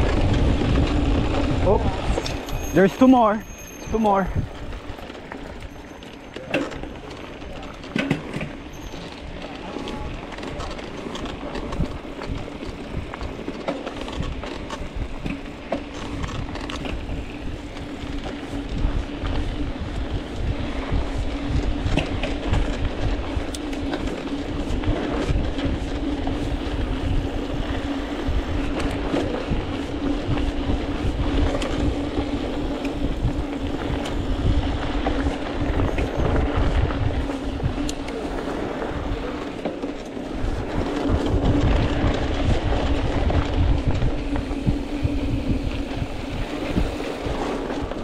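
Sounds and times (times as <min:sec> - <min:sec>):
bike rattling and clicking: 0:00.0 - 0:48.0
bike tyres rumbling on dirt: 0:00.0 - 0:48.0.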